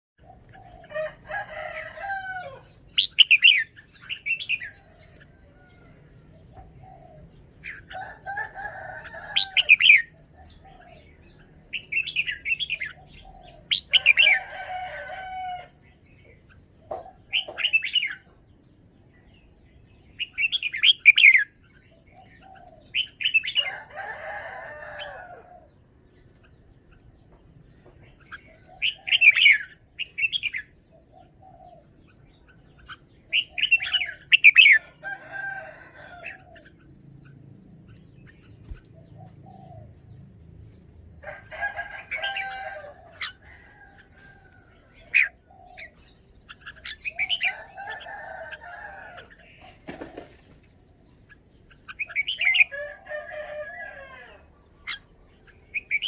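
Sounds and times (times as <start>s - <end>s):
bird singing warbled phrases: 0.2s - 56.0s.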